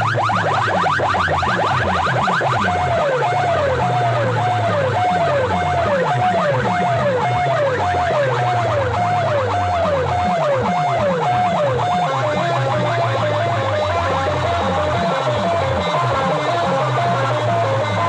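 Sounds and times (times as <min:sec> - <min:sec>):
electronic siren effects: 0:00.0 - 0:18.0.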